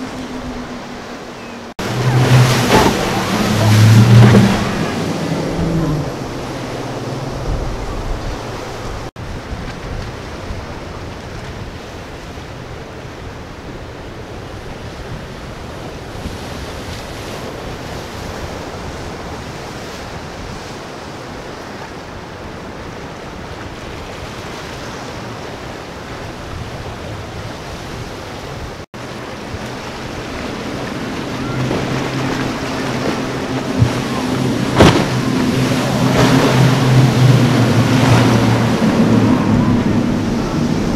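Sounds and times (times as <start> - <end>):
outboard engines droning: 0.0 - 40.9
rushing surf: 0.0 - 40.9
wind: 0.0 - 40.9.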